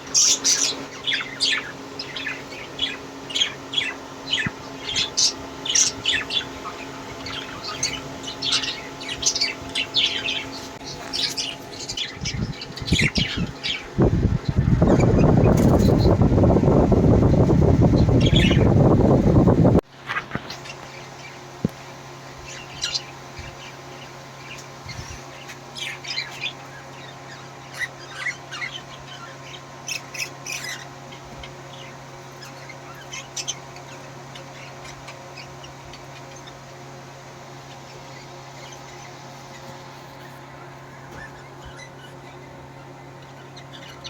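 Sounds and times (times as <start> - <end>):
parakeets chirping and squawking: 0.0 - 44.0
steady low hum: 0.0 - 44.0.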